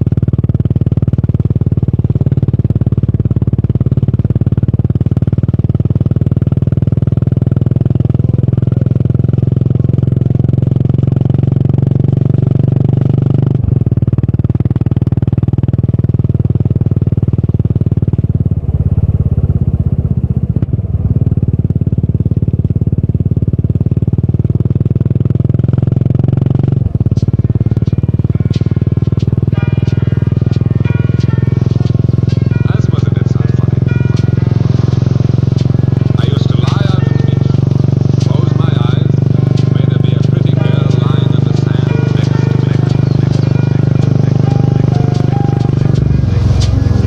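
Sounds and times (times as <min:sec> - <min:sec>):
motorcycle engine exhaust: 0:00.0 - 0:47.0.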